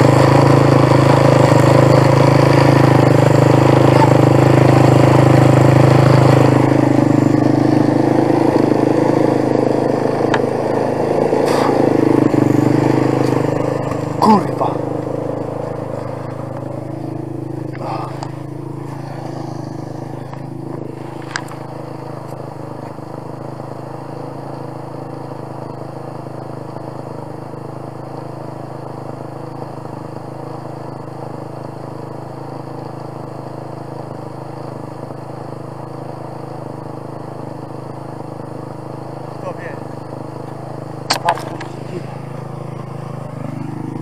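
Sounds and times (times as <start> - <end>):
atv engine idling: 0.0 - 44.0.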